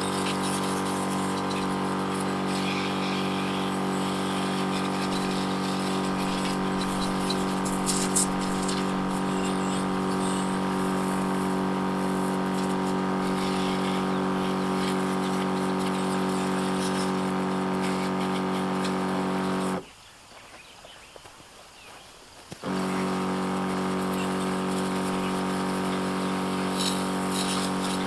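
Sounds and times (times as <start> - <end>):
pressure washer pump humming: 0.0 - 19.8, 22.6 - 28.0.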